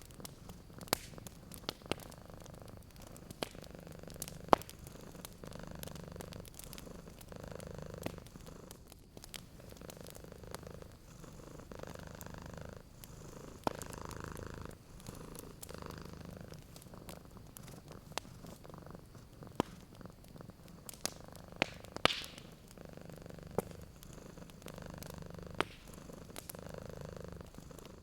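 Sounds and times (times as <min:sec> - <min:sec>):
cat purring: 0:00.0 - 0:28.0
wood fire crackling and popping: 0:00.0 - 0:28.0.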